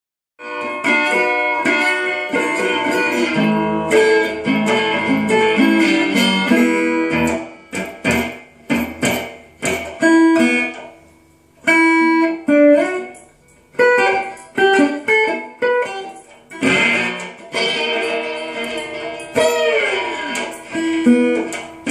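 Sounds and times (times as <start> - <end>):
resonator guitar fingerpicked: 0.4 - 21.9.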